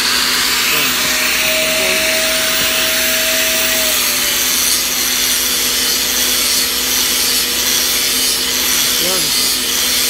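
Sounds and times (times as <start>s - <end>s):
angle grinder grinding metal: 0.0s - 10.0s.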